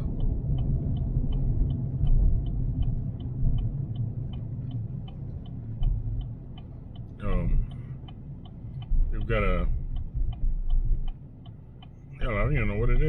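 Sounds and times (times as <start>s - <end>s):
car road rumble: 0.0s - 13.0s
turn signal ticking: 0.0s - 13.0s.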